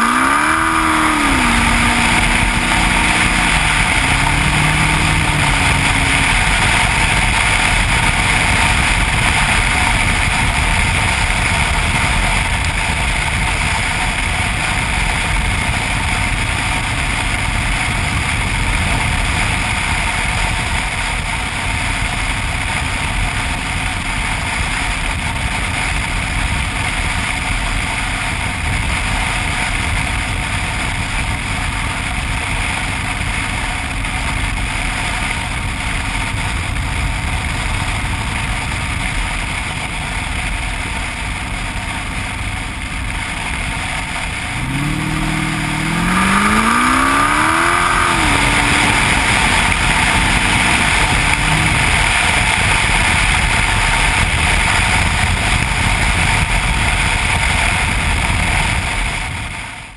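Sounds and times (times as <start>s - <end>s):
motorcycle engine cruising: 0.0s - 59.9s
wind over microphone: 0.0s - 59.9s.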